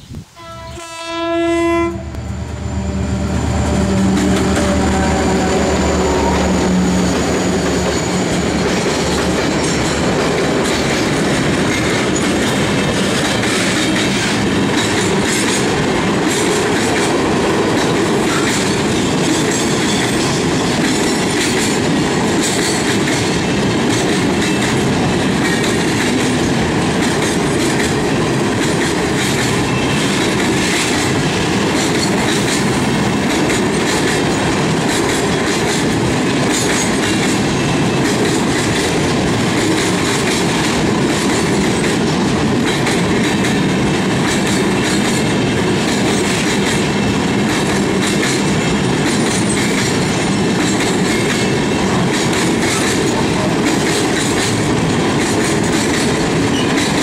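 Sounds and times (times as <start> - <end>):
diesel locomotive engine: 0.0 - 57.0
freight train rumble: 0.0 - 57.0
wheels clacking over rail joints: 3.6 - 57.0.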